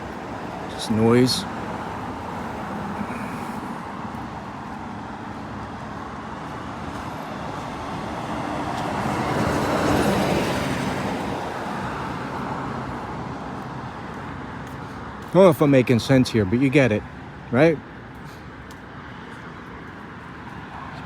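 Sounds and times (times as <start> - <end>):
street traffic hum: 0.0 - 21.0.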